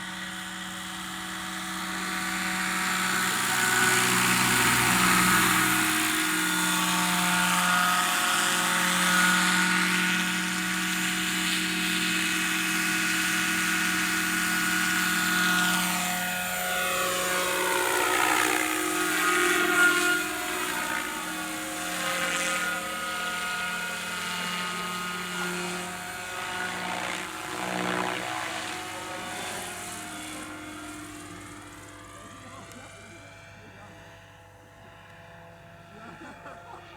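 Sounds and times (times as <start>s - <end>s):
helicopter engine hum and whine: 0.0s - 36.9s.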